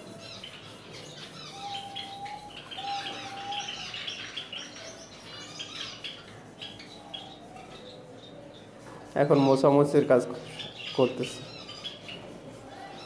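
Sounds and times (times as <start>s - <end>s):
cage birds chirping: 0.0s - 13.0s.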